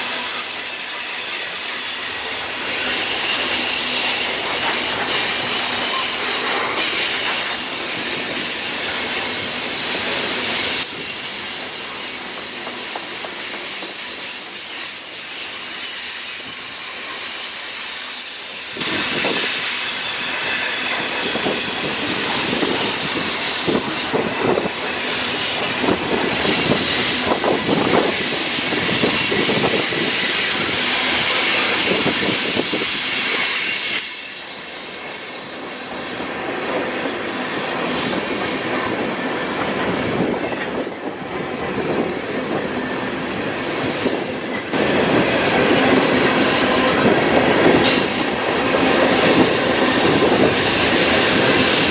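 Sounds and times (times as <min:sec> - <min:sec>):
train wheels squealing on rail: 0:00.0 - 0:51.9.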